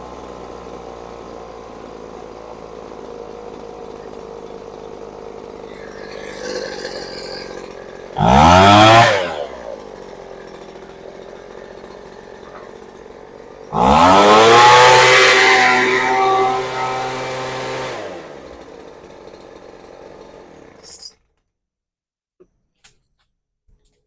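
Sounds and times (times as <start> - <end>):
leaf blower engine idling and revving: 0.0 - 21.0.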